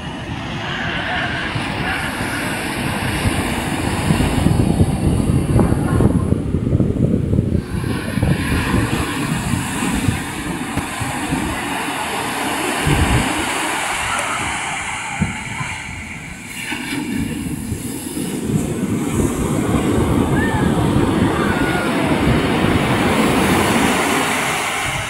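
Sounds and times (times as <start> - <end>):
heavy surf roar: 0.0 - 25.0.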